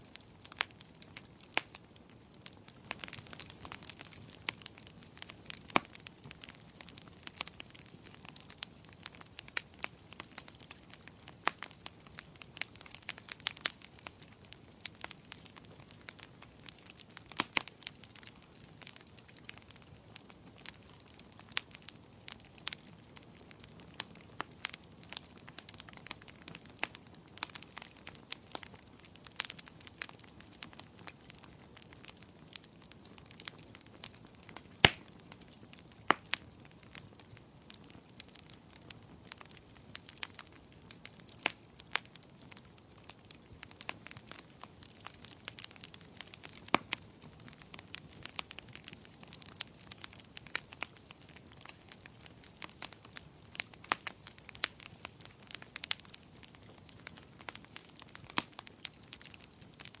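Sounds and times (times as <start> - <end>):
fireplace fire crackling: 0.0 - 60.0.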